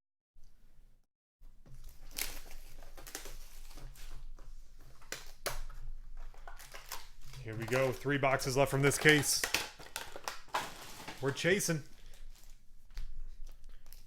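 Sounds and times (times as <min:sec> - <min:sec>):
plastic packaging crinkling and tearing: 0:01.7 - 0:14.0.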